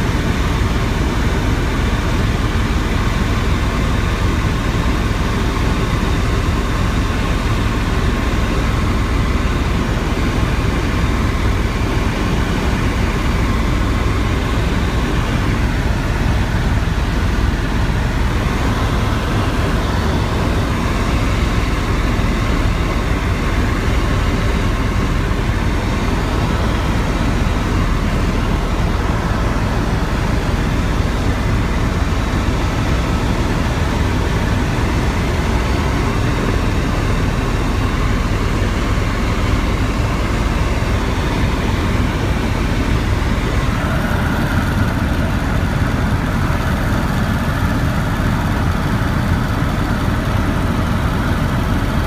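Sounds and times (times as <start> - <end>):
faint steady whine: 0.0 - 52.0
helicopter engine and rotor drone: 0.0 - 52.0.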